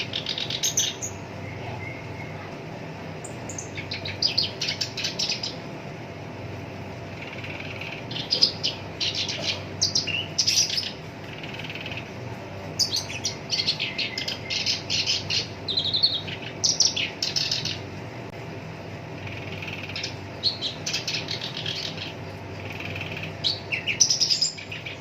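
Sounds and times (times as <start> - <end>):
steady low hum: 0.0 - 25.0
warbler chattering song: 0.0 - 25.0.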